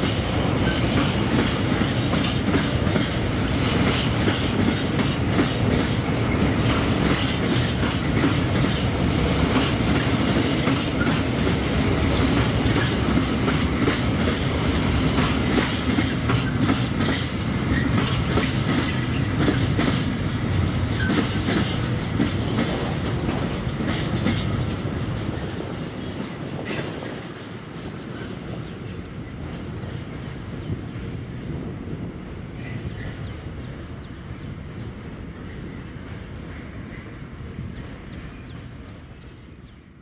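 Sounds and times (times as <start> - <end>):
train wheels clacking over rail joints: 0.0 - 39.0.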